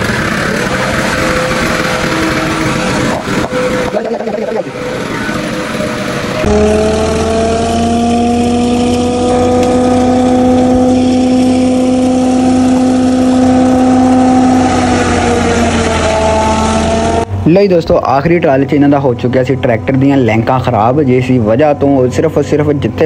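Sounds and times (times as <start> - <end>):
diesel tractor engine drone: 0.0 - 23.0
silage chopper whine: 0.0 - 23.0.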